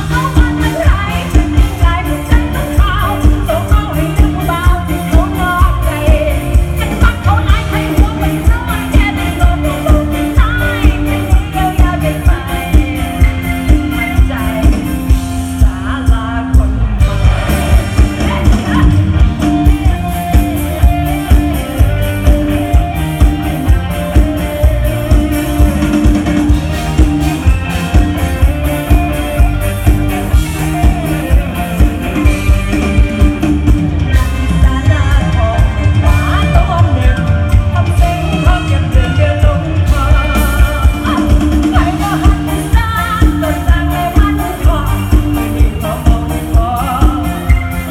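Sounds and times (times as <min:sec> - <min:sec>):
live band music over sound system: 0:00.0 - 0:47.9
person singing: 0:00.0 - 0:47.9
steady drum beat: 0:00.0 - 0:47.9.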